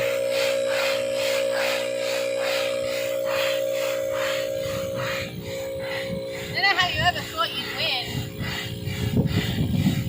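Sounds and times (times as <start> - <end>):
electric air compressor running: 0.0 - 10.0
hand air pump strokes: 0.0 - 10.0.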